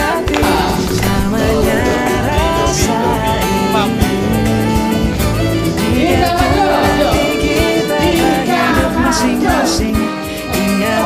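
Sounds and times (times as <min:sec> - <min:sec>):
steady beat: 0:00.0 - 0:10.1
guitar: 0:00.0 - 0:11.0
person singing: 0:00.0 - 0:11.0.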